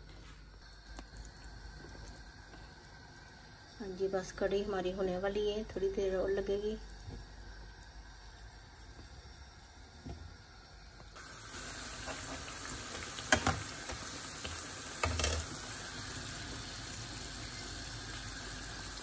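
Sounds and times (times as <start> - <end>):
food sizzling in hot oil: 0.7 - 19.0.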